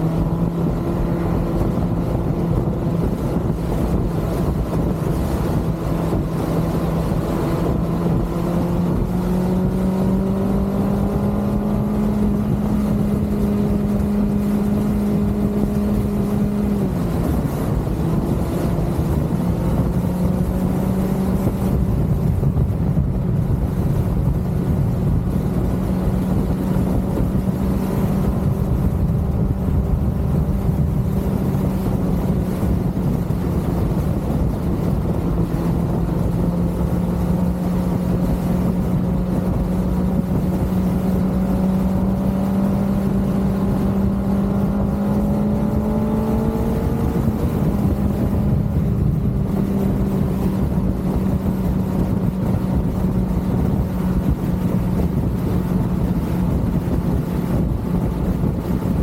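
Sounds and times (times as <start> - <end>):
motorcycle engine cruising: 0.0 - 59.0
wind rumble on microphone: 0.0 - 59.0.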